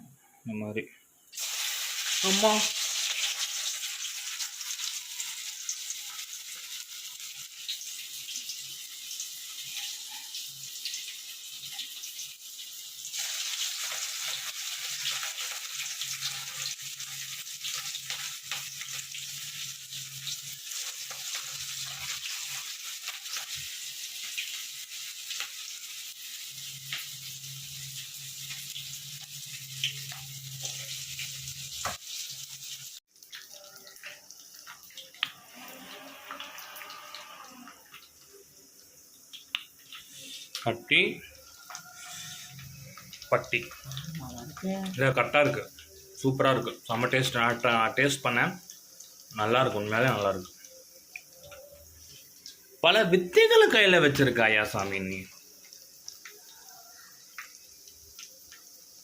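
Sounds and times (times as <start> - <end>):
food deep-frying in hot oil: 1.3 - 59.0.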